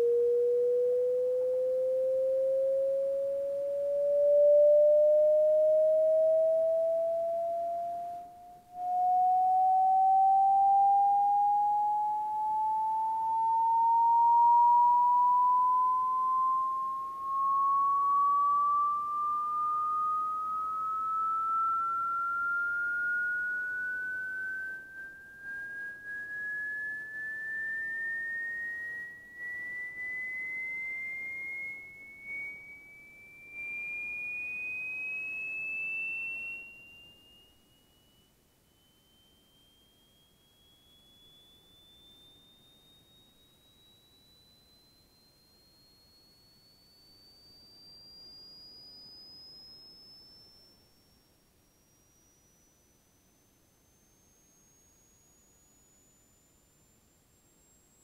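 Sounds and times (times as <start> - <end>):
rising sine tone sweep: 0.0 - 58.0.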